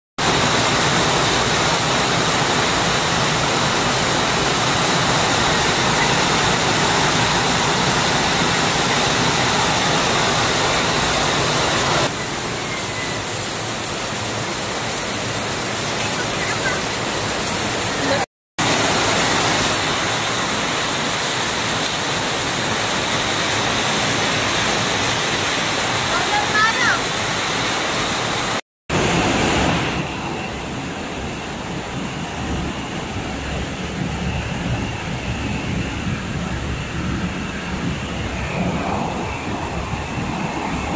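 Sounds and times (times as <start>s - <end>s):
heavy rain pouring: 0.2s - 40.9s.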